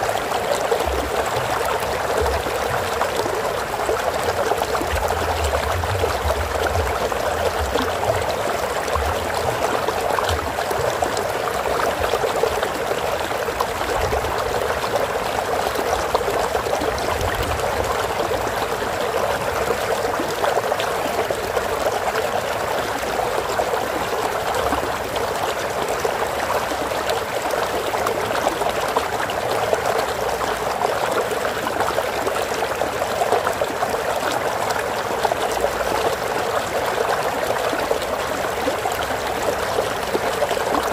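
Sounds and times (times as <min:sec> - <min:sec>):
stream water over rocks: 0:00.0 - 0:40.9.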